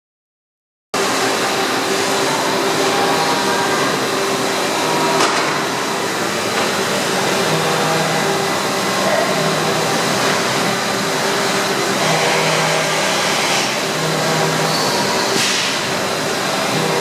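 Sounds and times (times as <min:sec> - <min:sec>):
machining centre humming: 0:01.0 - 0:17.0.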